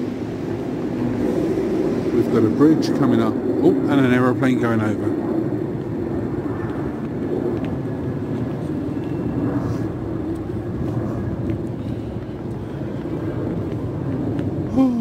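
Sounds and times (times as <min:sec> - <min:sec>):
aeroplane passing overhead: 0:00.0 - 0:15.0.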